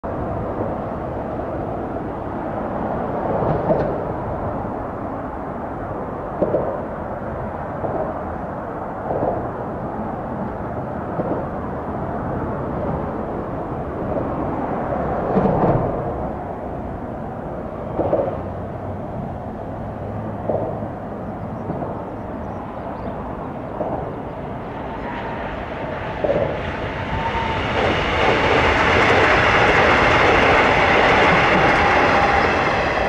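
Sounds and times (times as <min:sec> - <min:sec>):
outdoor background rumble: 0:00.0 - 0:33.0.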